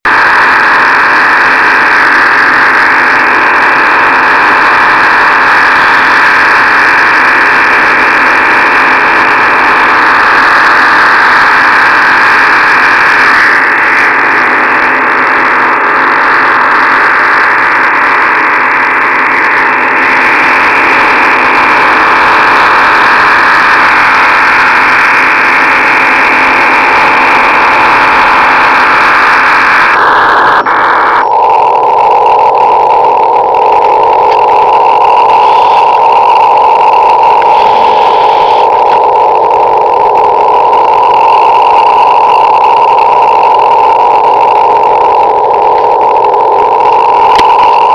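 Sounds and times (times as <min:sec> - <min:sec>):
radio receiver rushing noise: 0:00.0 - 0:47.9.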